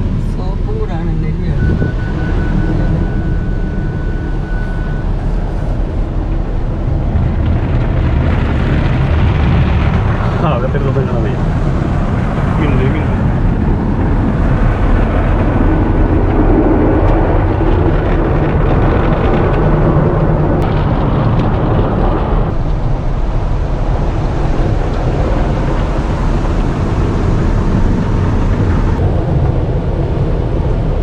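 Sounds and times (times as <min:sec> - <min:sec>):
car wash water spray and machinery: 0:00.0 - 0:31.0.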